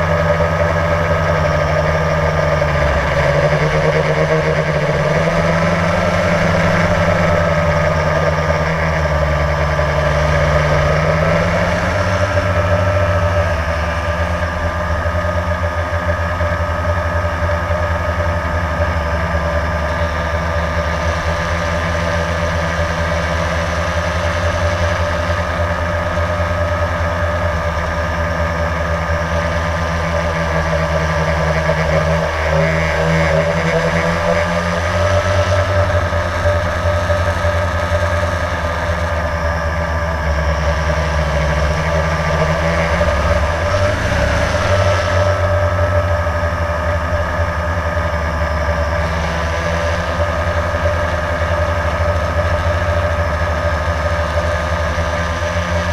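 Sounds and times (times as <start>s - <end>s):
quadcopter propellers whining: 0.0s - 55.9s.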